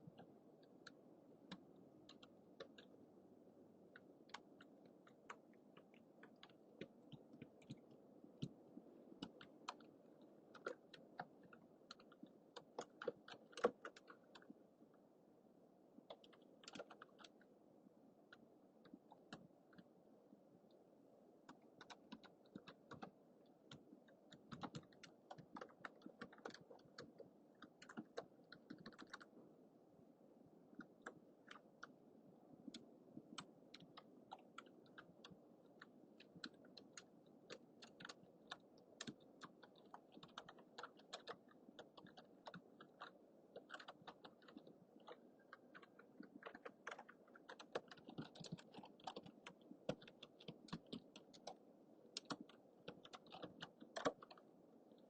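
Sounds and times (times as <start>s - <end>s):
typing on a computer keyboard: 0.0s - 3.0s, 3.9s - 8.6s, 9.2s - 14.6s, 16.0s - 17.5s, 18.3s - 19.9s, 21.4s - 29.3s, 30.8s - 31.9s, 32.6s - 55.0s
low background hiss: 0.0s - 55.0s.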